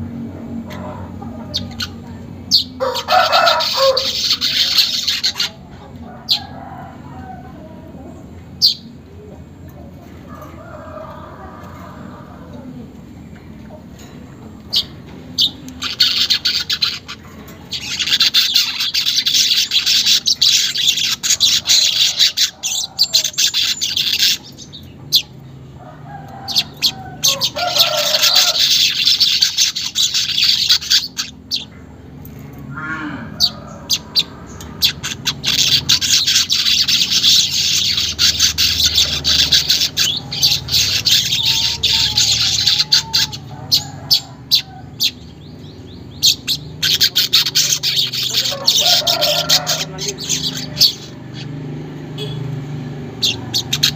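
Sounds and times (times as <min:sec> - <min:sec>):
weaver birds twittering: 0:00.0 - 0:53.9.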